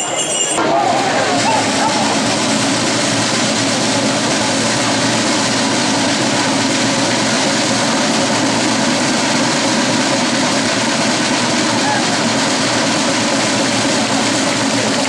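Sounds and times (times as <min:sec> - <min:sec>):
crowd hubbub: 0:00.0 - 0:15.0.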